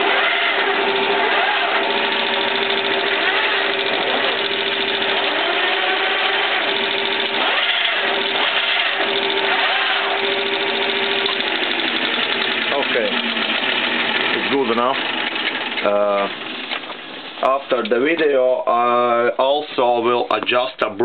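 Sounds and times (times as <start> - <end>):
lathe gears whirring: 0.0 - 18.0.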